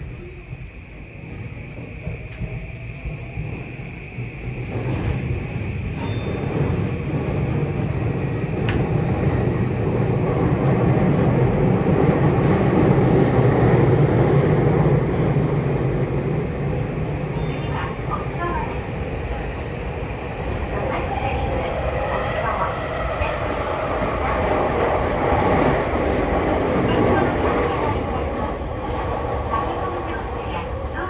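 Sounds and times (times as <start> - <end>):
electric train on rails: 0.0 - 31.0.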